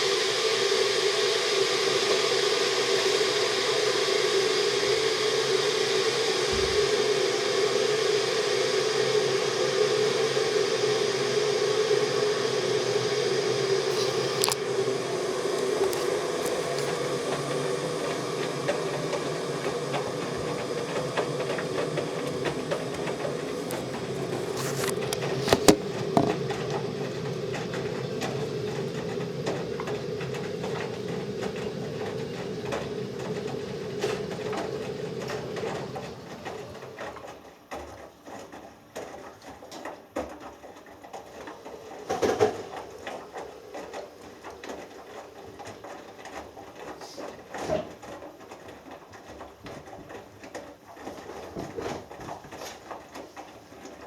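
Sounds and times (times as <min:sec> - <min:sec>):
washing machine motor hum: 0:00.0 - 0:38.6, 0:40.6 - 0:54.0.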